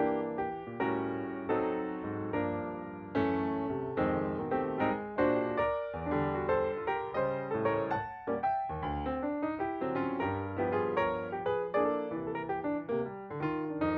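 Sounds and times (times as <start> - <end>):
piano music: 0.0 - 13.9.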